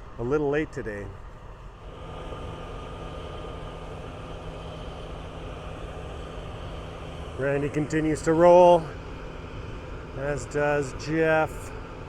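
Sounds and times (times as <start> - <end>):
faint high whine: 0.0 - 12.0
farm machinery engine drone: 0.0 - 12.0.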